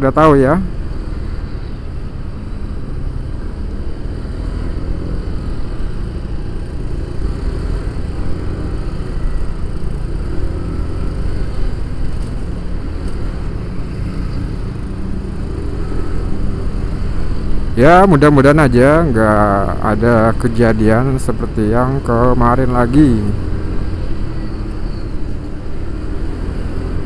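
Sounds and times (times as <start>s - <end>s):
scooter engine and road noise: 0.0s - 27.0s.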